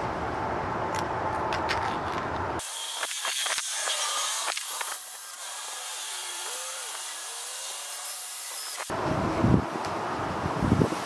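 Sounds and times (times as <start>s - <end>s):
outdoor hiss and rumble: 0.0s - 11.0s.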